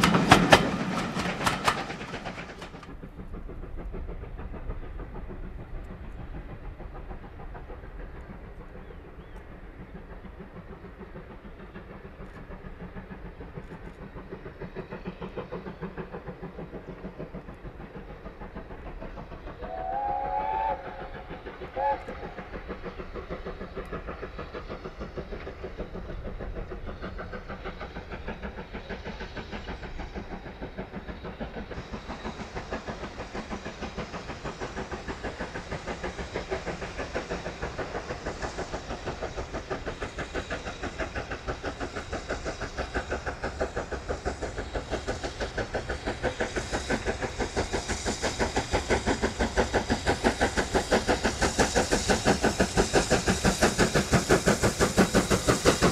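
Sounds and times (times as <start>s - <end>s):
steam locomotive exhaust beating: 0.0s - 55.9s.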